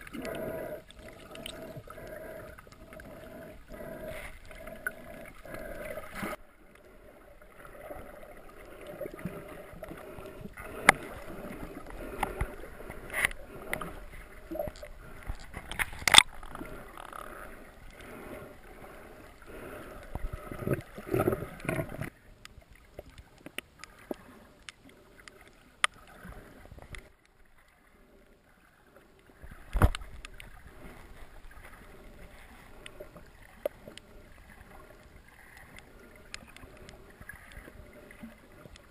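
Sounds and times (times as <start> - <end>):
water sloshing and bubbling underwater: 0.0 - 38.9.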